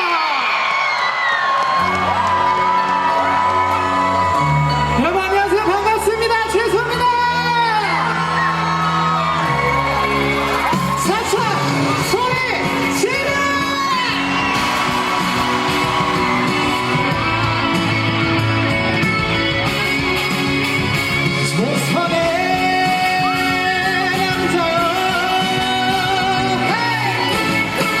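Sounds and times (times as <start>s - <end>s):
audience yelling and cheering: 0.0s - 28.0s
pop music over loudspeakers: 1.1s - 28.0s.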